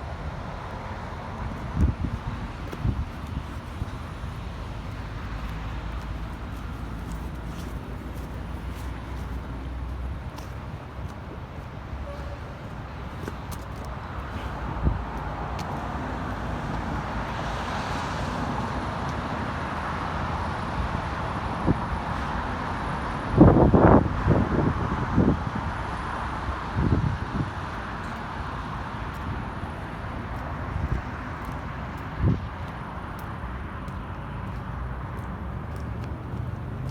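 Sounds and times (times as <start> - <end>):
car tyre and road noise: 0.0 - 36.9.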